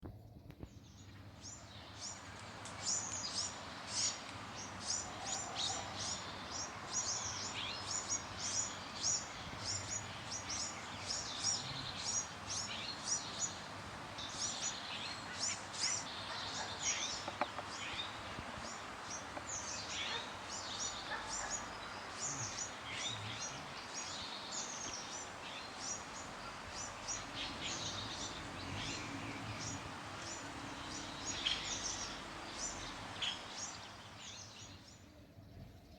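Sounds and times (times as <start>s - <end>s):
small birds chirping: 0.1s - 35.9s.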